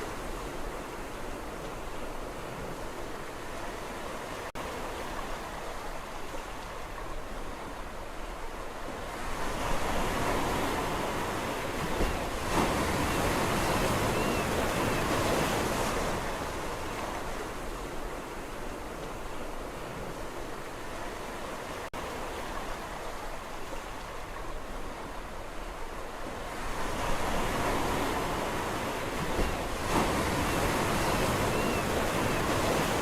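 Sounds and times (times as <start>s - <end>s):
sea waves washing in: 0.0s - 23.6s, 24.2s - 33.0s.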